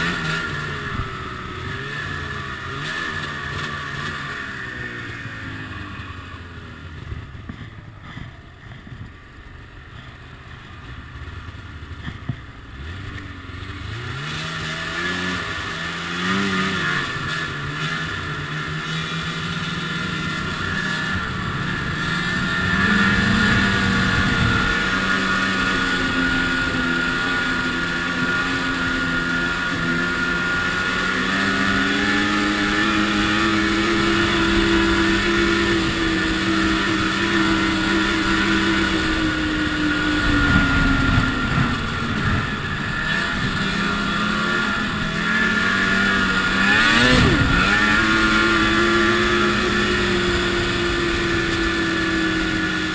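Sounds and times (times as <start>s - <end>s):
snowmobile engine accelerating: 0.0s - 52.9s.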